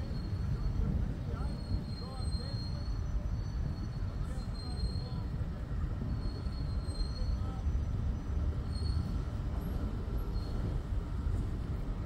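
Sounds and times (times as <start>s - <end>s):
faint high squeaks: 0.0s - 11.4s
locomotive rumbling: 0.0s - 12.0s.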